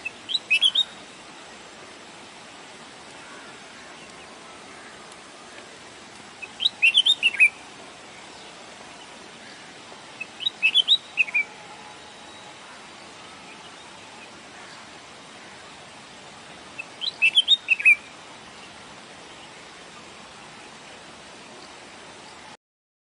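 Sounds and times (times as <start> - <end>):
background hiss: 0.0 - 22.6
songbird chirping: 0.0 - 22.6.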